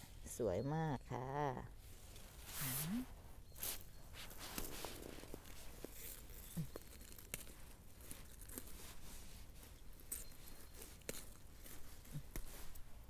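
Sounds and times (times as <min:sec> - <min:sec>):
rustling of leaf litter: 0:01.9 - 0:13.0.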